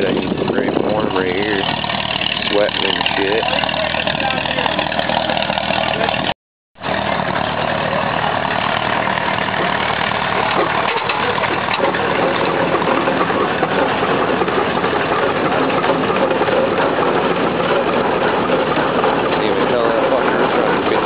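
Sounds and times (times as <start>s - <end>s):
steam traction engine running: 0.0s - 21.0s.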